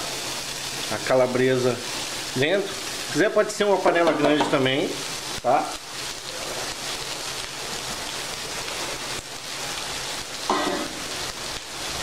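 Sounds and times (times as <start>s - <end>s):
sausage sizzling in frying pan: 0.0s - 12.0s.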